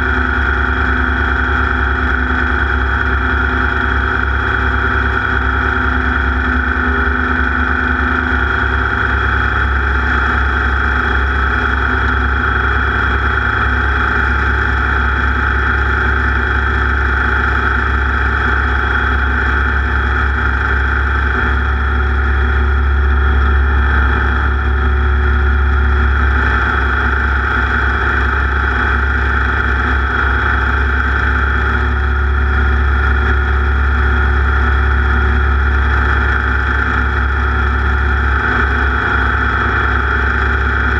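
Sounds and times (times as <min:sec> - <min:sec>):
racing engine running at speed: 0:00.0 - 0:40.9.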